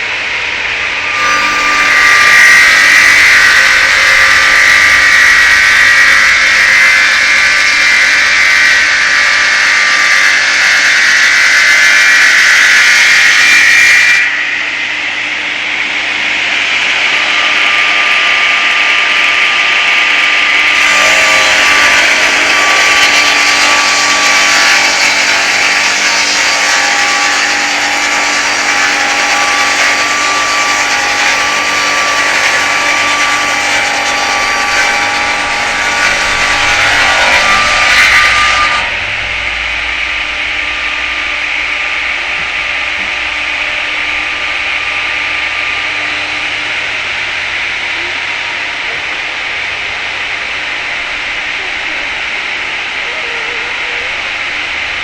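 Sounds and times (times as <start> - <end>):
circular saw blade sawing wood: 0.0 - 55.0.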